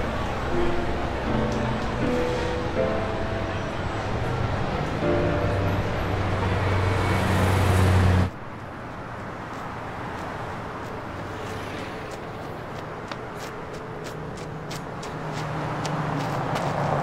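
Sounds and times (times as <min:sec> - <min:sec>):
city street traffic: 0:00.0 - 0:17.0
vehicle engine humming: 0:00.0 - 0:17.0.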